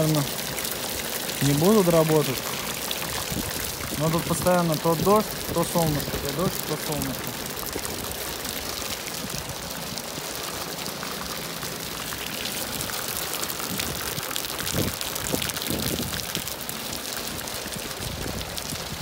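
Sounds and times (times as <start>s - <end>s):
rain on hard surfaces: 0.0s - 19.0s.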